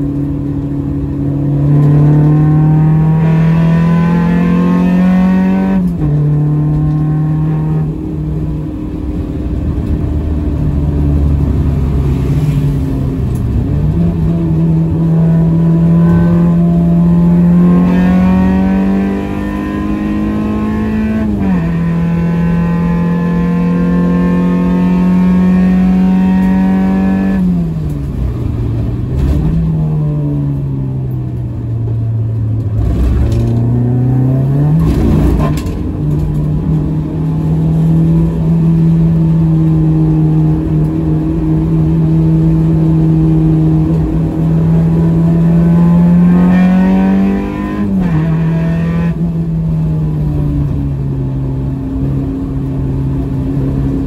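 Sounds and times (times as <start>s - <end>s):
car engine at full throttle: 0.0s - 54.0s.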